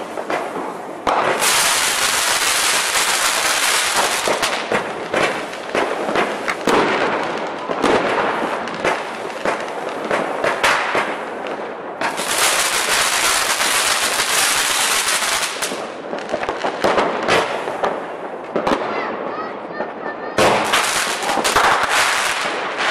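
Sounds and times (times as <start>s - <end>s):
fireworks crackling and banging: 0.0s - 22.9s.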